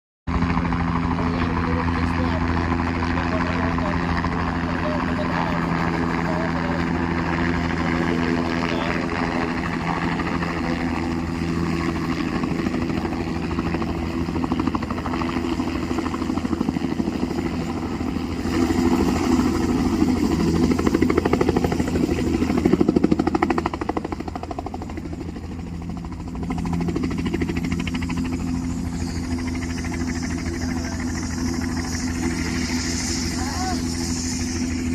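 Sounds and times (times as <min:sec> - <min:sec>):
helicopter engine and rotor: 0:00.3 - 0:34.9.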